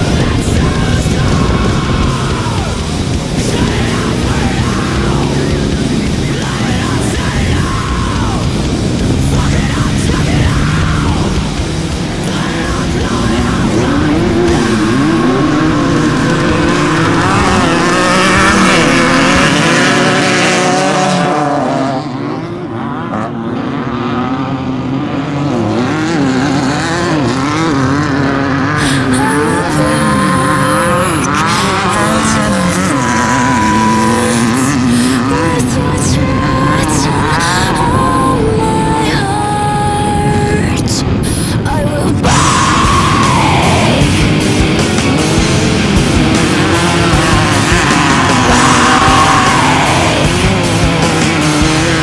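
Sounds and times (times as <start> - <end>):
music: 0.0 - 20.6, 28.8 - 52.0
race vehicle engines revving: 0.0 - 52.0.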